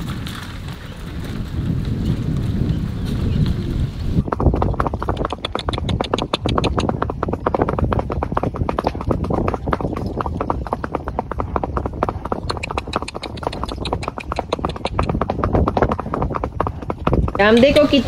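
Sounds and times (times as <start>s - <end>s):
hooves clip-clopping on concrete: 0.0s - 18.0s.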